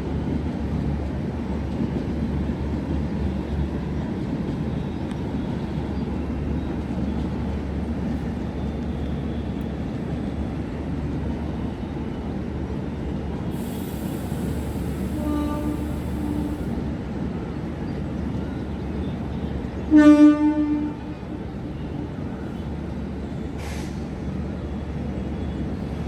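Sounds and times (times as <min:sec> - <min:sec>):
train rumbling through station: 0:00.0 - 0:26.0.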